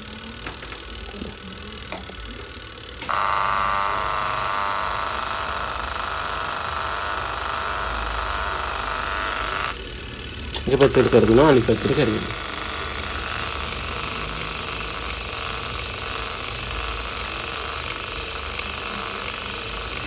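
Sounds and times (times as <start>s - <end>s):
washing machine motor humming: 0.0s - 20.0s.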